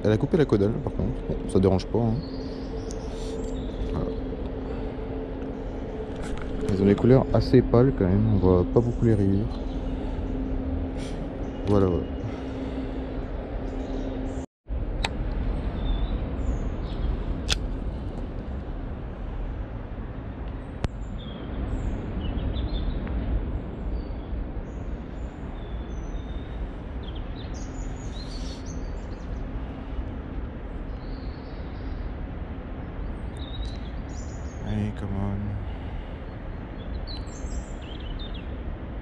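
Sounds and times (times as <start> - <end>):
birds chirping: 0.0 - 14.5, 20.0 - 39.0
low outdoor rumble: 0.0 - 39.0.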